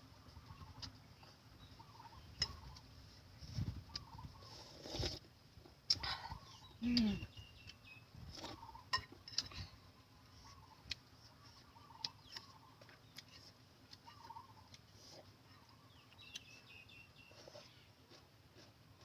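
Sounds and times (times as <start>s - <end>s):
faint wavering bird calls: 0.0s - 4.8s, 6.0s - 18.0s.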